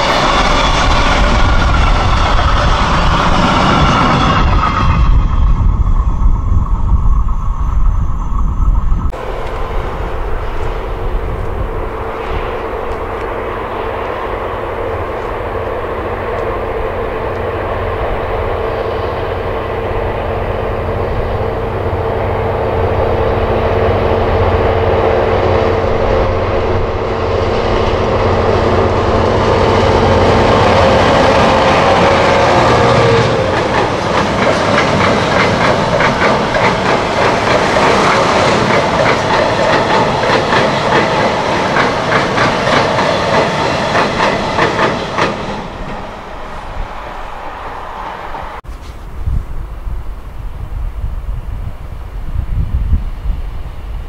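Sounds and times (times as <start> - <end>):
diesel locomotive engine drone: 0.0 - 54.0
freight train rumbling past: 0.0 - 54.0.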